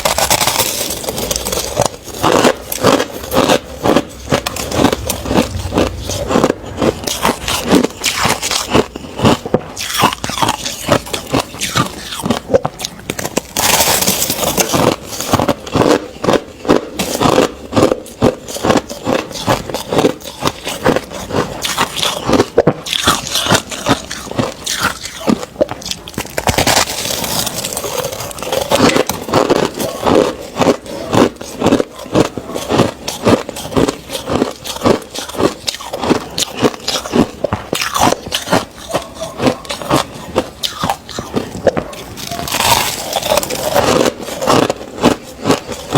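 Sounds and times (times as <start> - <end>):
ice crunching when chewed: 0.0 - 45.9.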